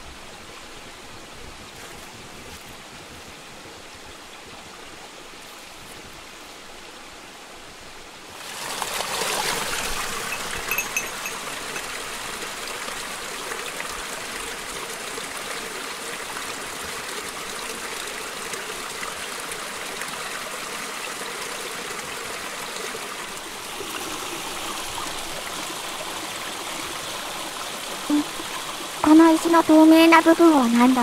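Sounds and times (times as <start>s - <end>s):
stream flowing over rocks: 0.0s - 31.0s.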